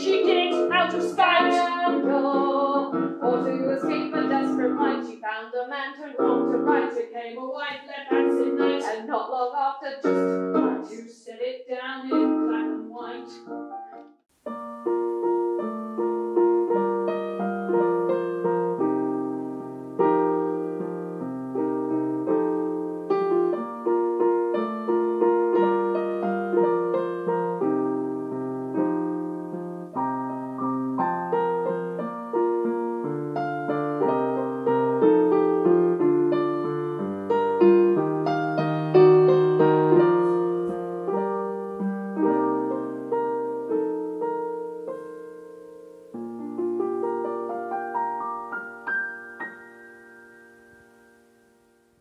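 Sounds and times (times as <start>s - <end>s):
solo piano music: 0.0s - 11.0s, 12.0s - 52.0s.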